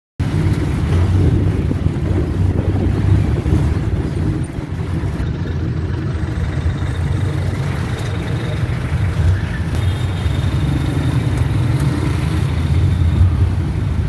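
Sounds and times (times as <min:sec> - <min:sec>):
vehicle engine droning: 0:00.2 - 0:14.0.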